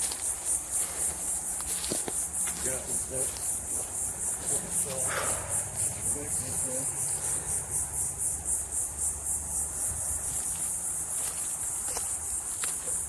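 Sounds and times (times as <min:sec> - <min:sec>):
insects pulsing drone: 0:00.0 - 0:13.0.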